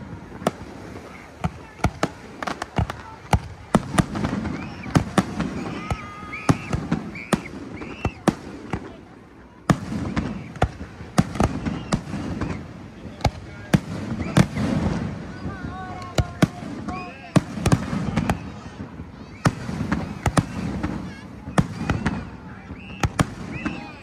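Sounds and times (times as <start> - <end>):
crowd voices: 0.0 - 24.0
fireworks bangs: 0.0 - 24.0.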